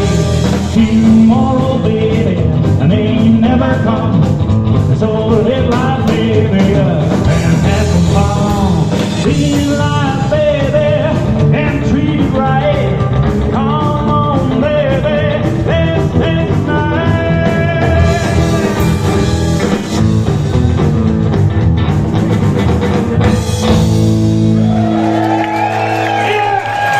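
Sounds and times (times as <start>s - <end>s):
lead guitar lines: 0.0s - 26.7s
rock and roll band playing: 0.0s - 26.9s
steady drum beat: 0.0s - 26.9s.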